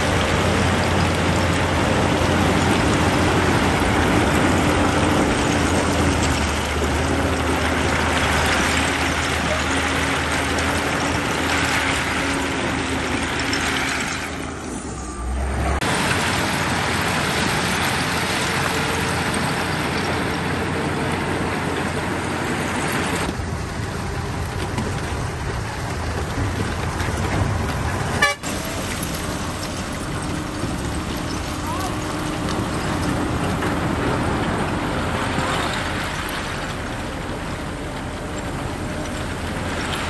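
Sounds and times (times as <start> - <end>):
heavy diesel machinery running: 0.0 - 40.0.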